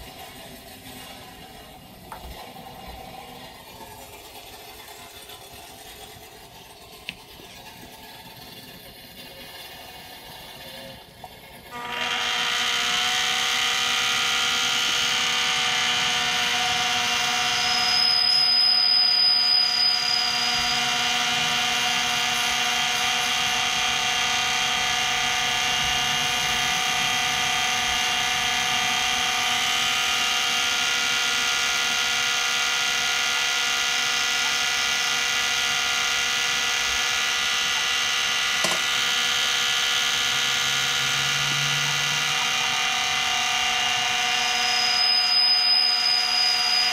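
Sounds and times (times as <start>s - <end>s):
lathe motor and gear whine: 0.0s - 46.9s.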